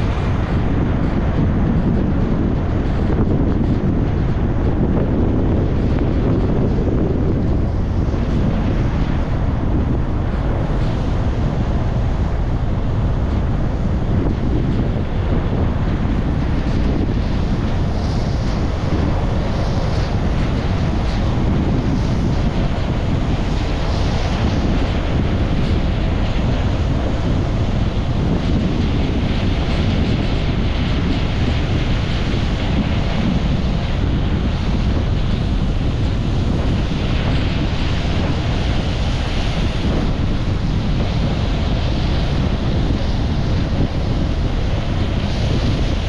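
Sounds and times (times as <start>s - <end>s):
car road and wind noise: 0.0s - 46.0s
wind buffeting microphone: 0.0s - 46.0s.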